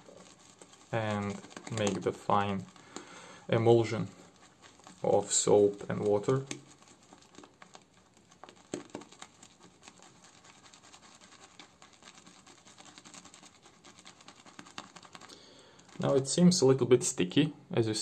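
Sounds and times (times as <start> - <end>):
shaving brush swishing lather: 0.0 - 17.2.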